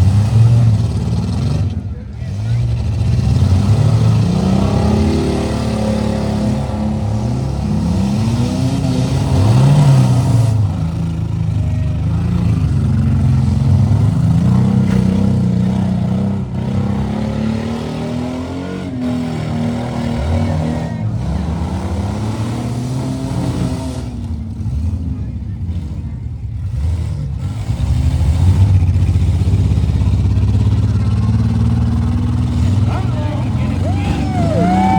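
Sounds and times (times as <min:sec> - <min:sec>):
car engines revving: 0:00.0 - 0:34.9.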